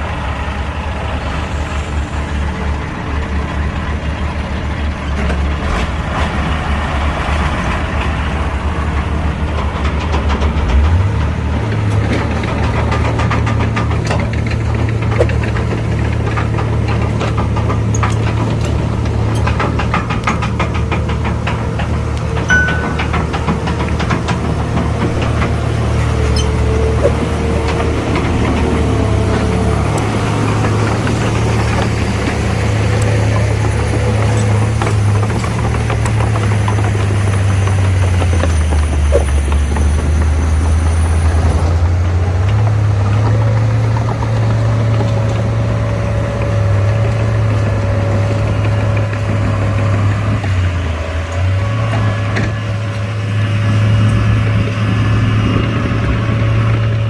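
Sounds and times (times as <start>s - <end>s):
heavy diesel engines under load: 0.0s - 57.0s.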